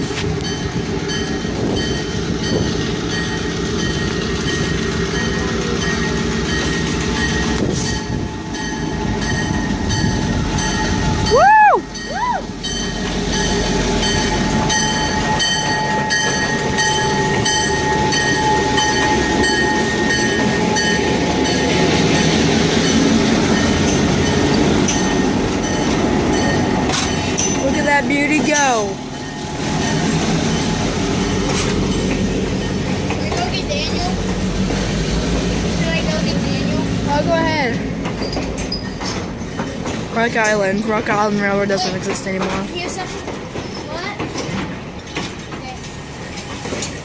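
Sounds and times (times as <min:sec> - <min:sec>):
diesel locomotive engine rumble: 0:00.0 - 0:47.0
train wheel clatter: 0:00.0 - 0:47.0.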